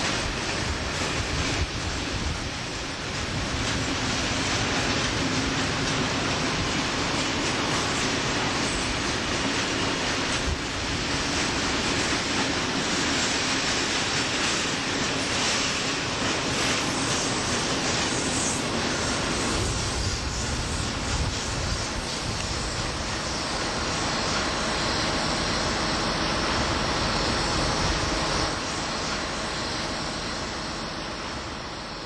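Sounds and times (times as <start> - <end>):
freight train rolling past: 0.0 - 32.0.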